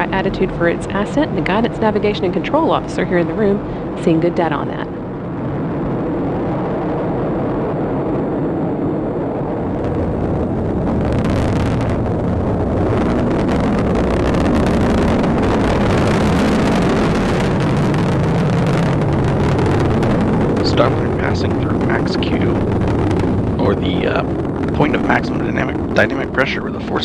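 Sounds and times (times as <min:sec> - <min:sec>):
rocket engine rumbling: 0:00.0 - 0:27.0.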